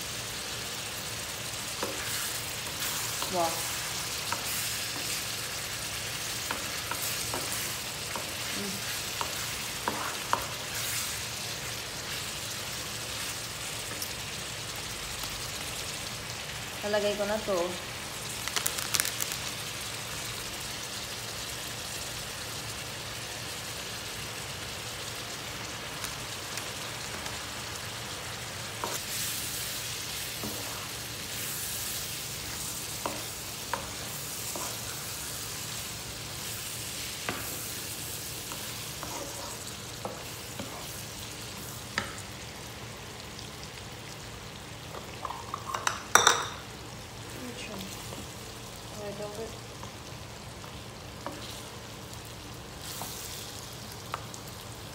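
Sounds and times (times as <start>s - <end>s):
meat sizzling in a pan: 0.0s - 54.9s.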